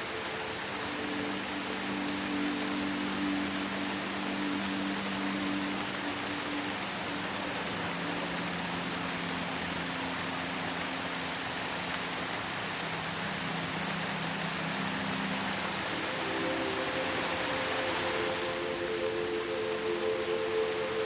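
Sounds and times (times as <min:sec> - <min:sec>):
ambient music low tones: 0:00.0 - 0:21.0
steady rain: 0:00.0 - 0:21.0.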